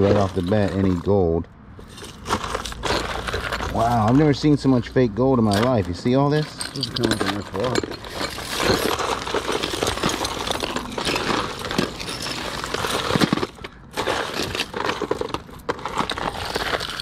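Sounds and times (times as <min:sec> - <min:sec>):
jewelry clinking and jangling: 0:01.8 - 0:03.8, 0:05.4 - 0:17.0.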